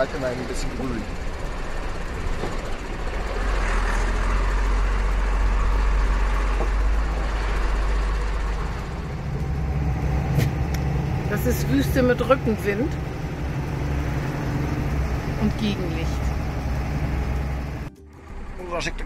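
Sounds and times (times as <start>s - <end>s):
road and cab rumble: 0.0s - 19.0s
truck engine running: 0.0s - 19.0s.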